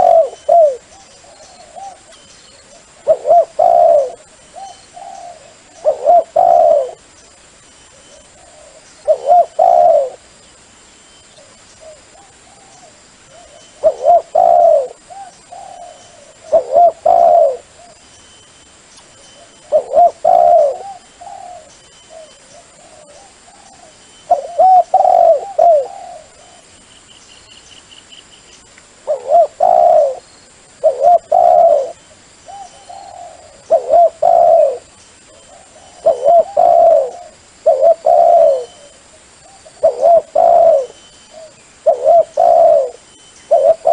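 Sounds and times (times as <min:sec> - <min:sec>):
doves cooing: 0:00.0 - 0:10.3, 0:11.4 - 0:18.0, 0:19.4 - 0:26.8, 0:29.0 - 0:43.9.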